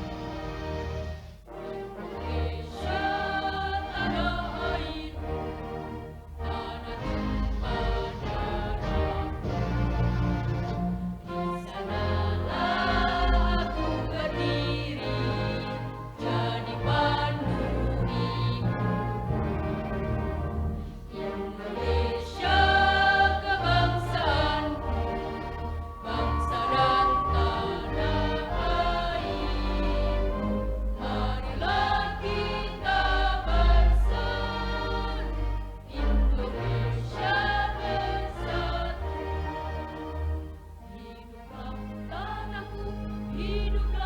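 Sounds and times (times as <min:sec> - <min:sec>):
choir singing: 0:00.0 - 0:44.0
musical accompaniment with bass: 0:00.0 - 0:44.0.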